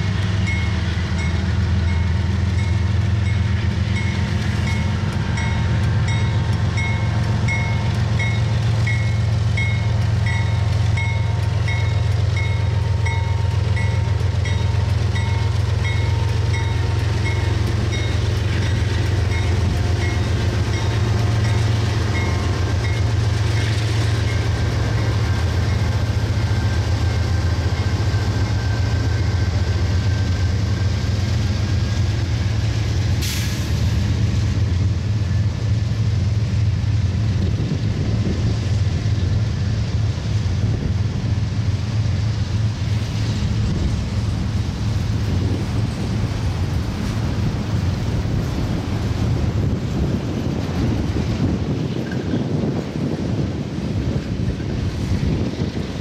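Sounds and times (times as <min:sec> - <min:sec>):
diesel locomotive engine drone: 0:00.0 - 0:56.0
freight cars rolling on rails: 0:00.0 - 0:56.0.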